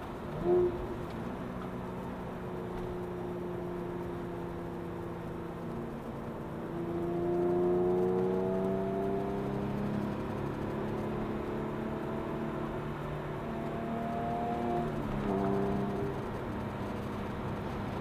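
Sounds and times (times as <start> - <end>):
car engine heard from inside cabin: 0.0 - 18.0.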